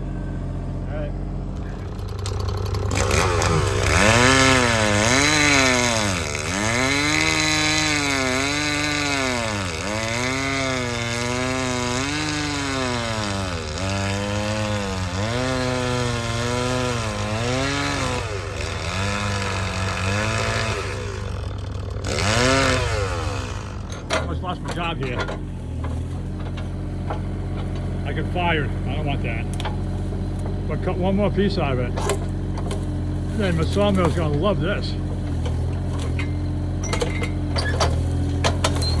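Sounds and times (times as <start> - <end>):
mini excavator engine running: 0.0 - 39.0
chainsaw cutting log: 1.5 - 39.0.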